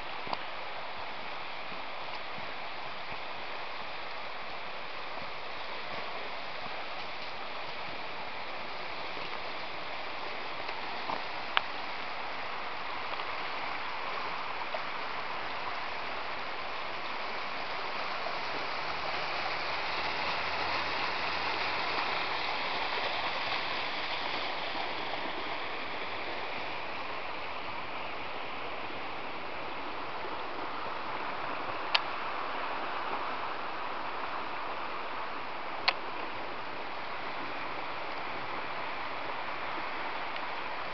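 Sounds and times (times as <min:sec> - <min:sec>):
river rushing over rapids: 0:00.0 - 0:40.9.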